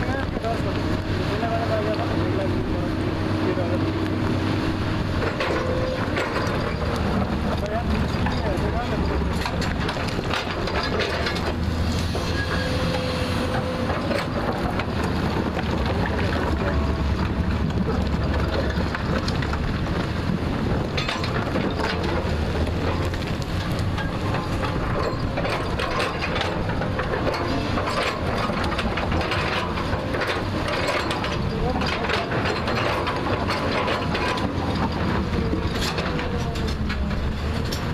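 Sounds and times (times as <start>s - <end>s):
diesel engine under load: 0.0s - 37.9s
digger knocks and clanks: 0.0s - 37.9s.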